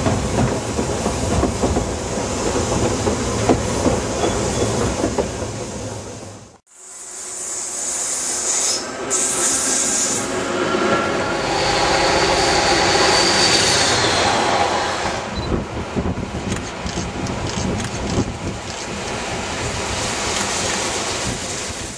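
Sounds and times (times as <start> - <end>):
train wheels rolling on rails: 0.0 - 6.6, 7.3 - 21.9
high whine from train wheels: 0.0 - 21.9.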